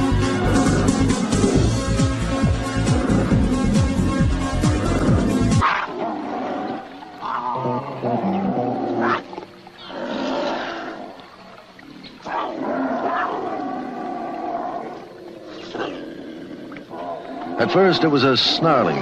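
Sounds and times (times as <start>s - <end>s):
animals snarling and growling: 0.0s - 19.0s.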